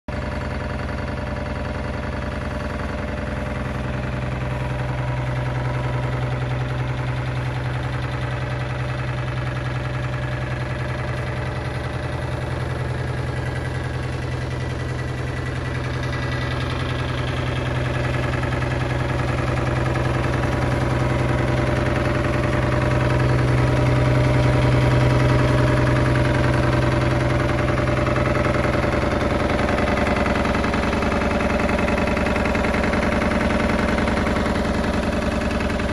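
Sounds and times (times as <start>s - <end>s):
diesel engine idling: 0.1s - 35.9s.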